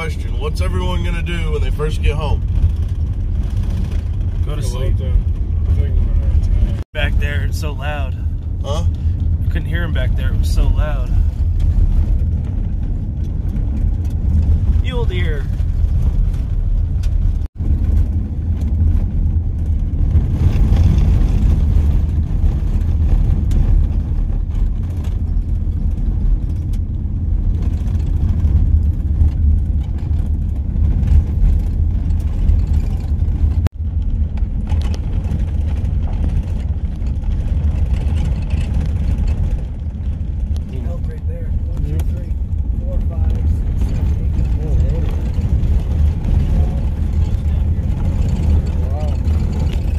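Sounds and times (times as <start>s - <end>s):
truck engine and road noise: 0.0s - 49.9s.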